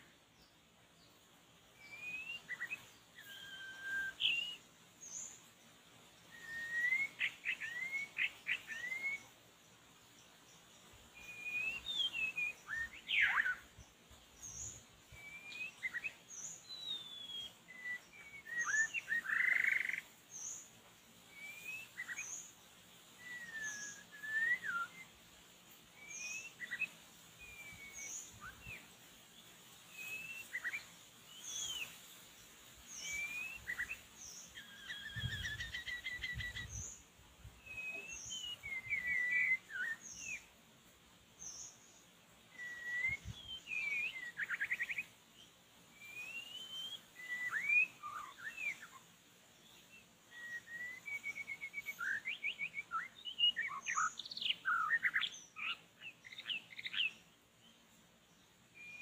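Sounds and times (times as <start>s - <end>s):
bird singing whistled notes: 0.0s - 5.4s, 6.2s - 9.4s, 10.5s - 25.3s, 25.9s - 40.6s, 41.4s - 59.0s.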